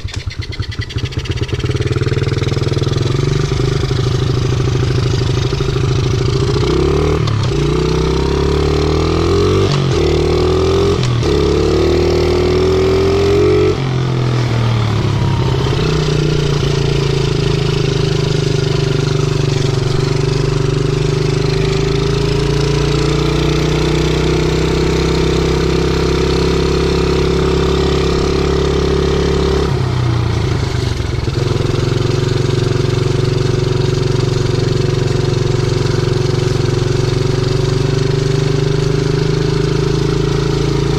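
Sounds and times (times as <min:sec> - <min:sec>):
small motorbike engine revving: 0:00.0 - 0:40.9.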